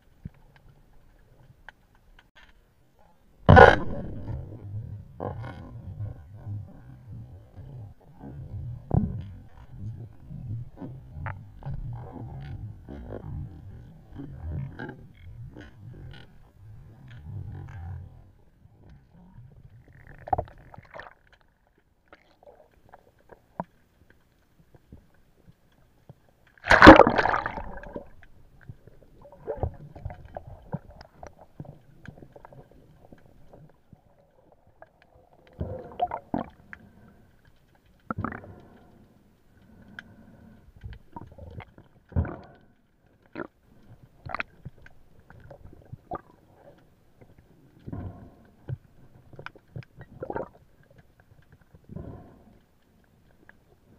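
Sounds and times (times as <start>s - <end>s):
water moving and bubbling: 0.0s - 53.9s.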